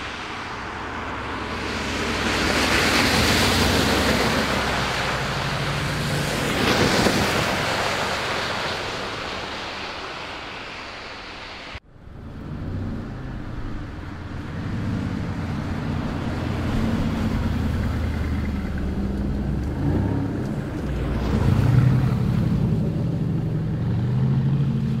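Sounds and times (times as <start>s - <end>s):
car engines revving: 0.0s - 10.3s, 12.1s - 25.0s.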